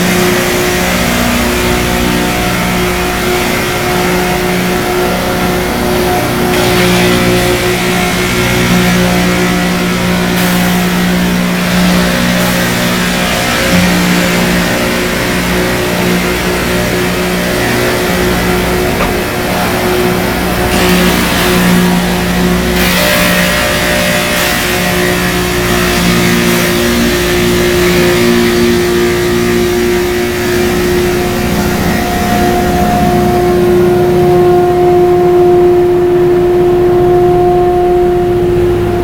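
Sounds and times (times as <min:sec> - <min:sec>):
grinding stones hissing on rail: 0:00.0 - 0:34.0
diesel engines running: 0:00.0 - 0:39.0.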